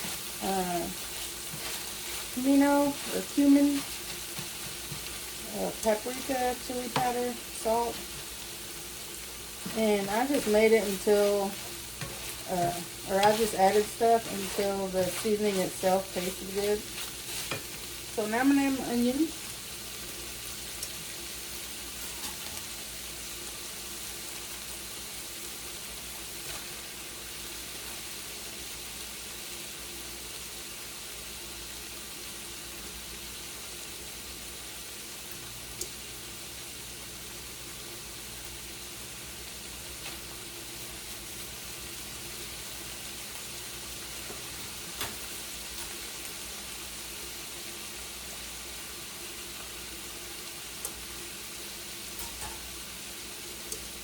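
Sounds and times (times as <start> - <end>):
meat sizzling in frying pan: 0.0 - 54.0.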